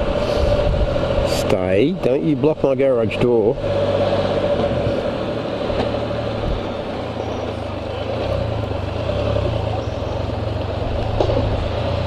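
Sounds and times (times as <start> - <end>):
engine humming at low speed: 0.0 - 12.0.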